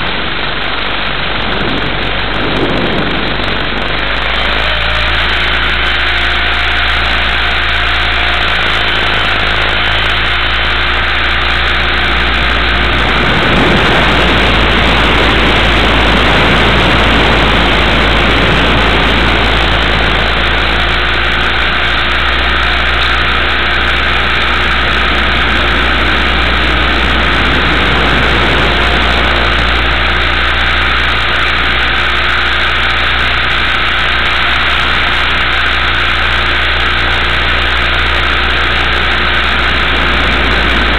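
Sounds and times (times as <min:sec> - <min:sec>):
rc helicopter motor and rotor: 0:00.0 - 0:40.9.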